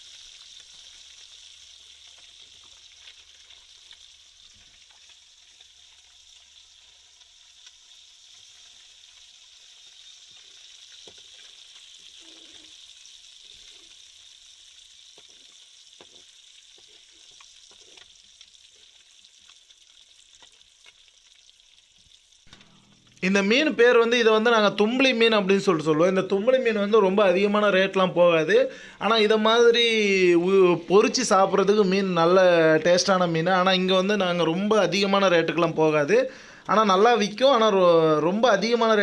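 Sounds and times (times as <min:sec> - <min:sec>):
fish frying in oil: 0:00.0 - 0:39.0.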